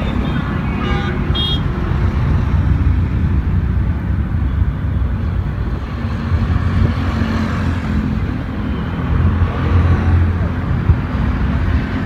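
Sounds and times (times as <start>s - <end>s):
passing road traffic rumble: 0.0s - 12.0s.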